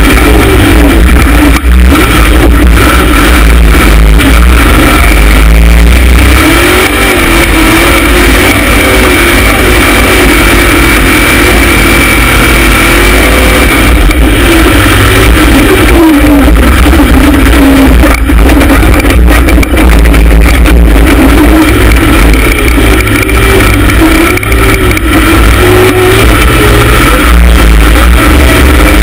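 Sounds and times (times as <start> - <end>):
engine revving hard: 0.0 - 29.0.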